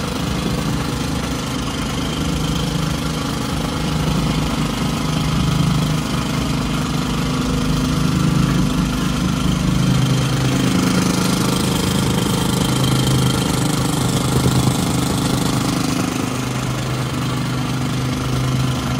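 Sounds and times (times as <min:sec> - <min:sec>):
tamping rammer pounding soil: 0:00.0 - 0:18.9.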